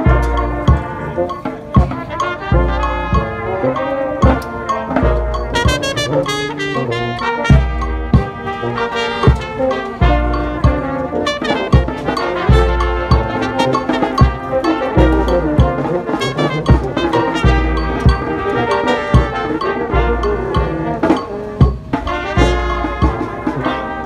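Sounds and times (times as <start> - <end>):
snare drum strokes: 0.0 - 24.0
trumpets and trombones playing: 0.0 - 24.0.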